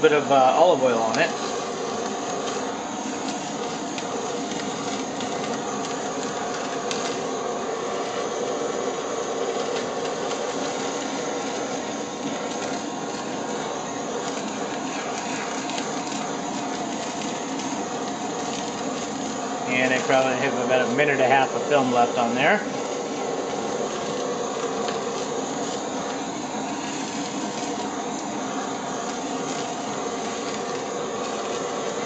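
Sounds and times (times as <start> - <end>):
torch flame hissing: 0.0 - 32.0.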